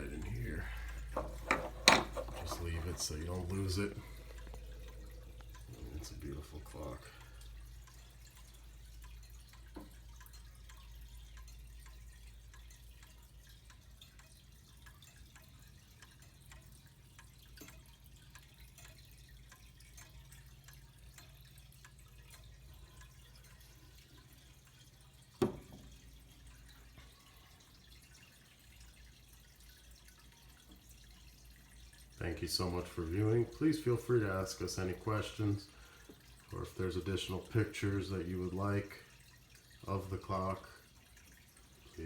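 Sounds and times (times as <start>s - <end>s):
pendulum clock ticking: 0.0s - 42.0s.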